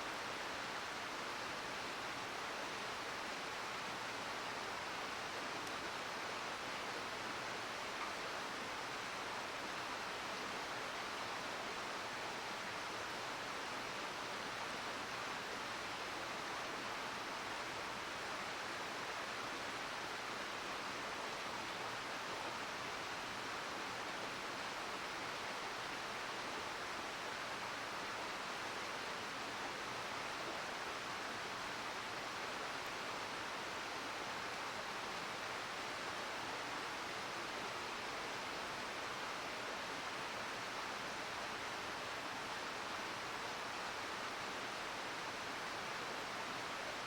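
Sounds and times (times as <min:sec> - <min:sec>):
river rushing: 0:00.1 - 0:47.0.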